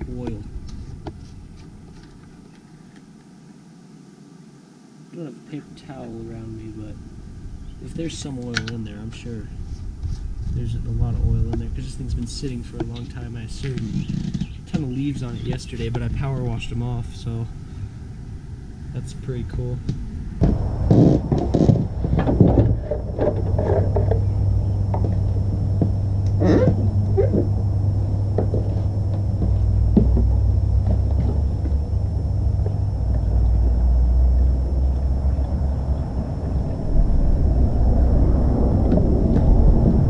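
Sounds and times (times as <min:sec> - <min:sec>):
wind on microphone: 0:06.1 - 0:40.0.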